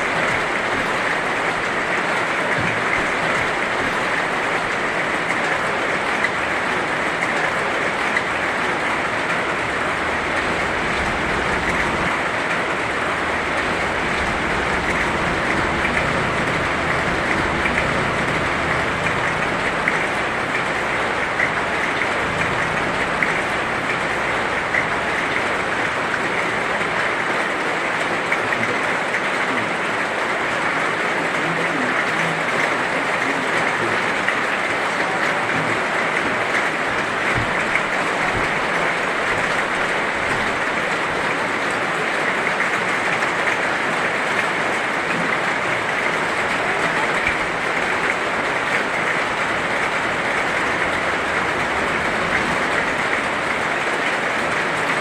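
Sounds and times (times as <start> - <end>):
heavy rain hissing: 0.0 - 55.0
raindrops ticking: 0.0 - 55.0.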